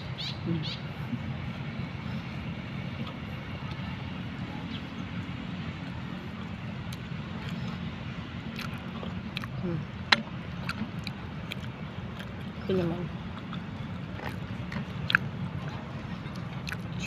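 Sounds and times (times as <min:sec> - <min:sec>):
engine rumble with humming drone: 0:00.0 - 0:17.0.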